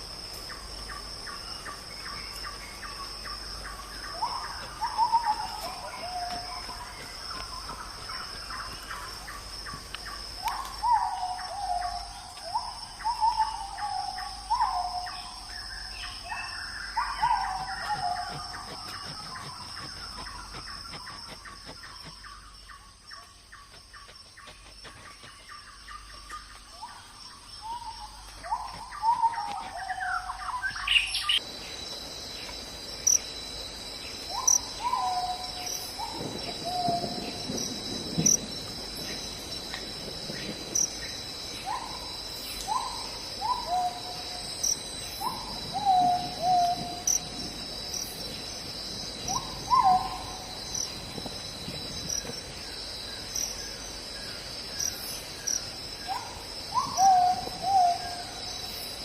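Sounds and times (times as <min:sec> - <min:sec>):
night insects chorus: 0:00.0 - 0:59.0.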